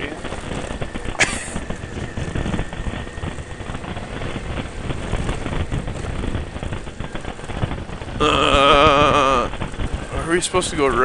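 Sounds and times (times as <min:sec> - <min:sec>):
motorcycle jolting over bumps: 0:00.0 - 0:11.0
tyres crackling on loose rock: 0:00.0 - 0:11.0.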